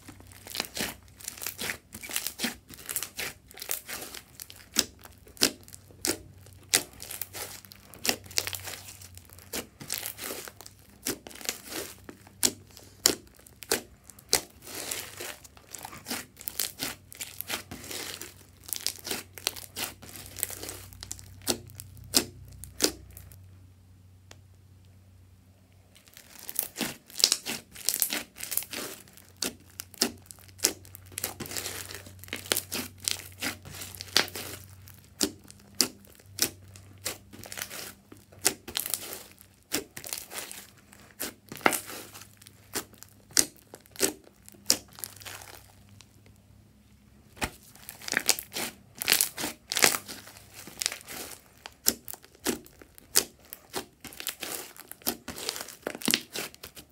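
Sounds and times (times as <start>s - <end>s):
slime crackling and squelching: 0.0s - 23.4s, 25.8s - 56.9s.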